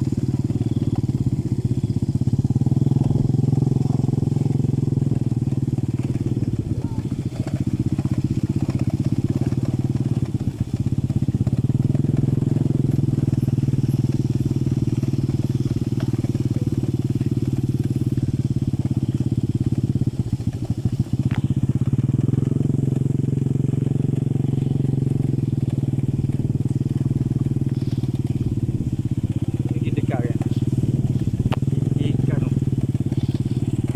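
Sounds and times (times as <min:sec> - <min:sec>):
small engine running: 0:00.0 - 0:33.9.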